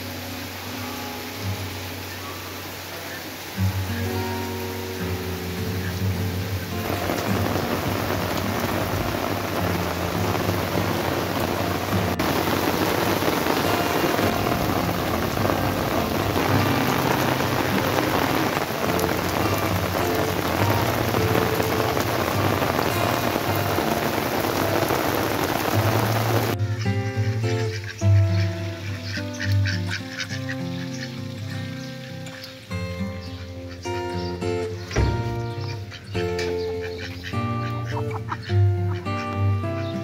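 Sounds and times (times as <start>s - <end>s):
heavy rain on leaves and paving: 0.0s - 40.0s.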